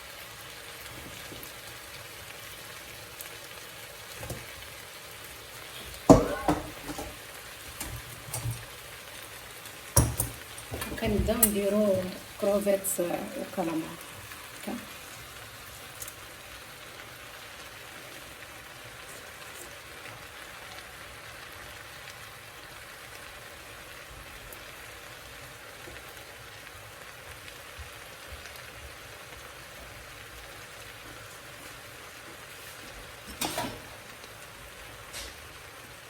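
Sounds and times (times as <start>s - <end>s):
seafood sizzling in a pan: 0.0s - 36.0s.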